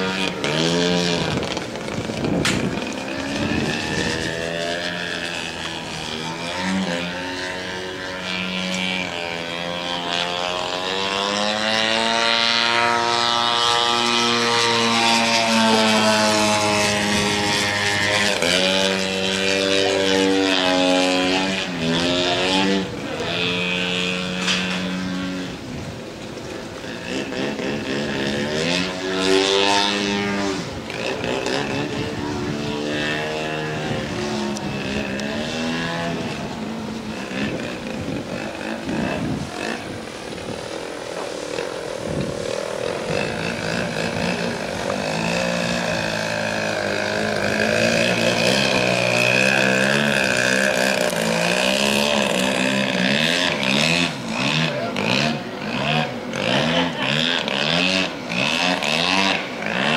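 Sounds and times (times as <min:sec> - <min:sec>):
model plane engine: 0:00.0 - 0:59.9.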